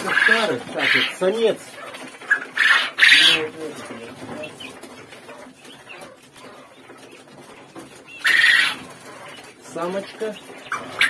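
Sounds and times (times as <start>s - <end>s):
quail soft calls and chirps: 0.0s - 11.0s.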